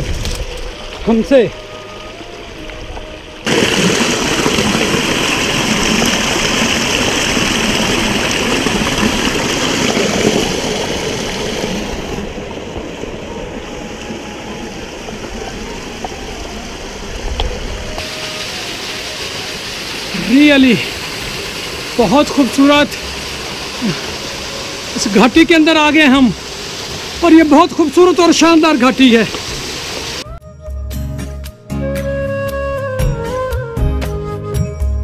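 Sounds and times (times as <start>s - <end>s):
stream water rushing over rocks: 0.0s - 30.2s.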